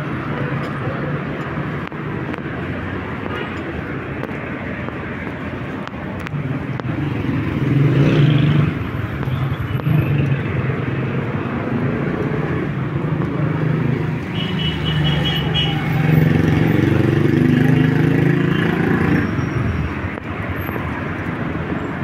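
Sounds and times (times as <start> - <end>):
cars passing: 0.0 - 22.0
motorcycles passing: 0.0 - 22.0.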